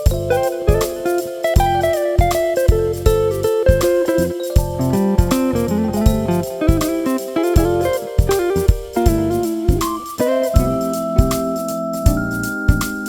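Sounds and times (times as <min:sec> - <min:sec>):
guitar-led instrumental music: 0:00.0 - 0:13.0
steady drum beat: 0:00.0 - 0:13.0.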